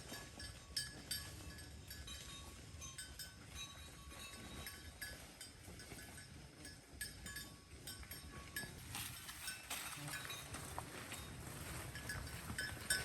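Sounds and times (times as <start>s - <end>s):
cattle crunching and chewing: 0.0s - 13.0s.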